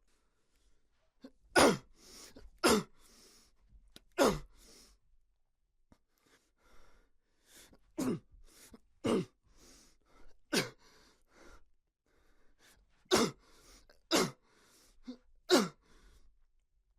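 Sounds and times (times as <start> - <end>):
breaths and gasps: 0.2 - 3.6, 4.4 - 5.0, 6.0 - 16.3.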